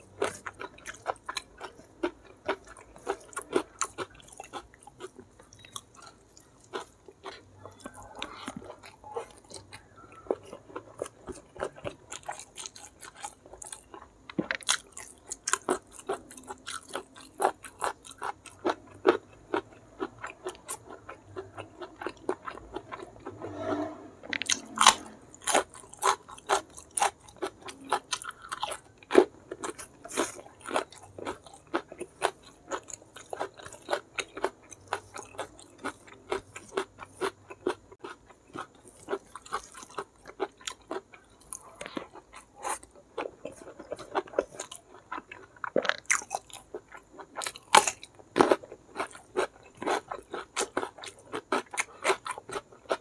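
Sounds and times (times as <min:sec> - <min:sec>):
close chewing and crunching: 0:00.0 - 0:23.6, 0:24.2 - 0:53.0.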